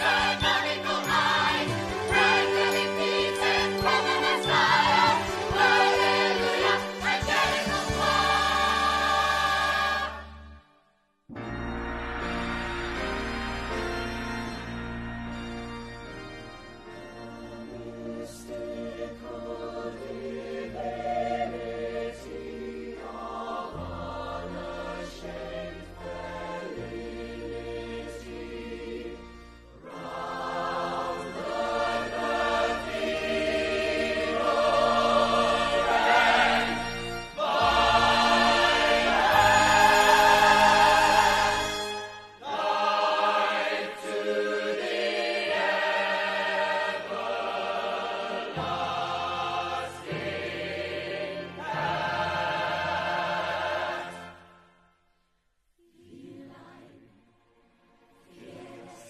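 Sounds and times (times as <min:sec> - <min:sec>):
choir singing: 0:00.0 - 0:10.7, 0:16.8 - 0:54.9, 0:55.8 - 0:59.0
musical theatre instrumental backing: 0:00.0 - 0:59.0.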